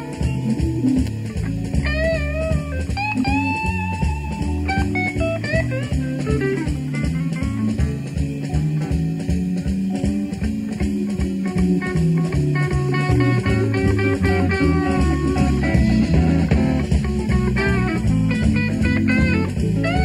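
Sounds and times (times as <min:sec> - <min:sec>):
drums and bass: 0:00.0 - 0:20.0
lead electric guitar: 0:00.0 - 0:20.0.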